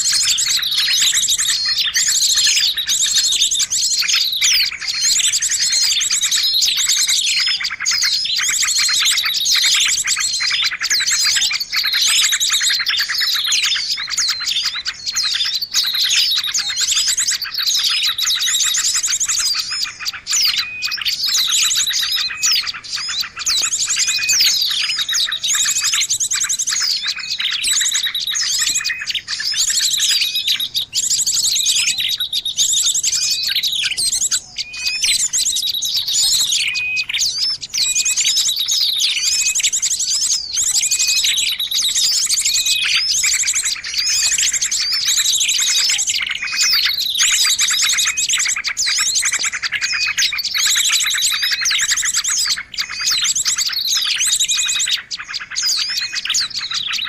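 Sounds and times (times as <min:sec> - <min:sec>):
chorus of small birds chirping: 0:00.0 - 0:57.0.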